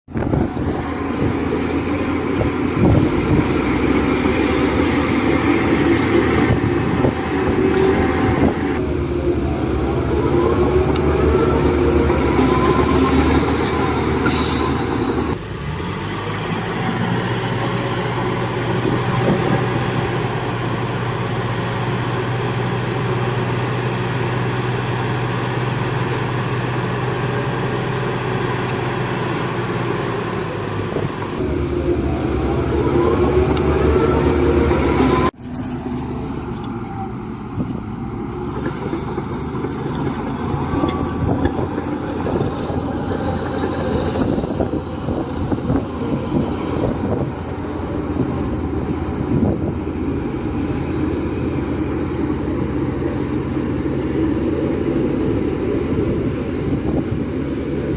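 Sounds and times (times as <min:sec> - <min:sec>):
diesel machinery running: 0:00.1 - 0:57.9.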